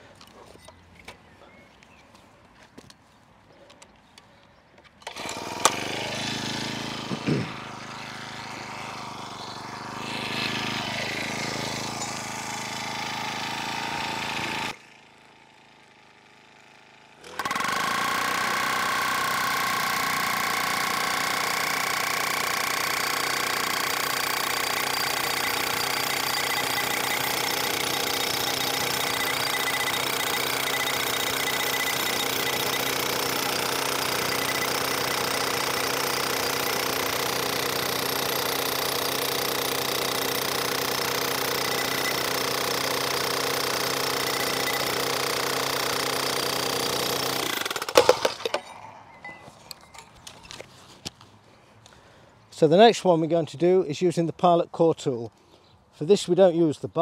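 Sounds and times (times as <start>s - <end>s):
petrol post driver engine: 5.0s - 51.0s.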